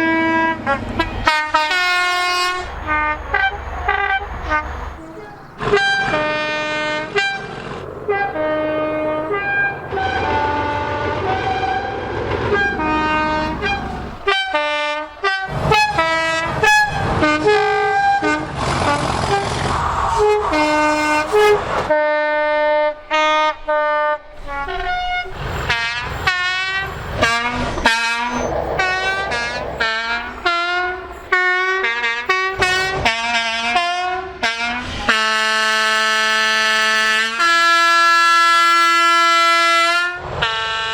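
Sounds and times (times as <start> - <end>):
two-tone train horn blasts: 0.0 - 19.4, 20.2 - 40.9
train running rumble: 0.0 - 40.9.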